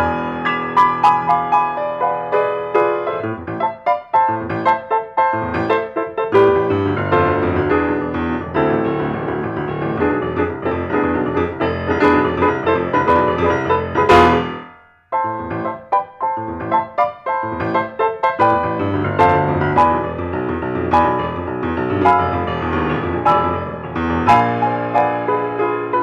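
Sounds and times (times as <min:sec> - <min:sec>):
solo piano playing: 0:00.0 - 0:26.0.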